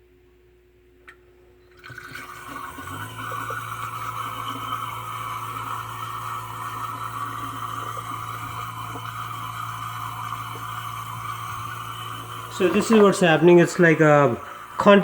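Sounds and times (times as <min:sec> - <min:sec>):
dishwasher drain pump running: 0:01.1 - 0:15.0.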